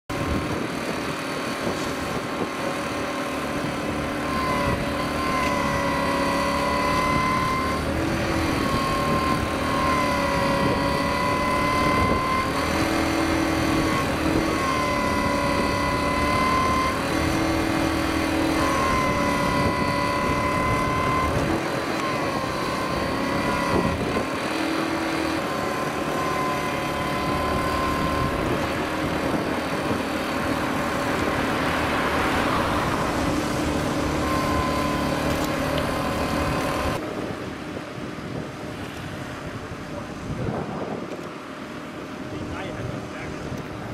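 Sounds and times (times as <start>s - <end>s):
engine running steadily: 0.1s - 43.9s
whining tone: 0.1s - 43.9s.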